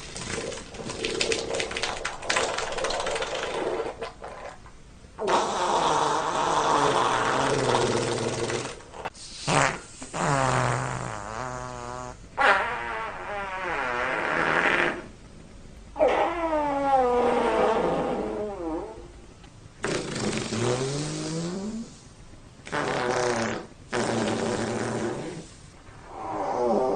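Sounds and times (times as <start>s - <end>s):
rasping farts: 0.0s - 15.2s, 16.0s - 19.1s, 19.8s - 22.0s, 22.6s - 26.9s.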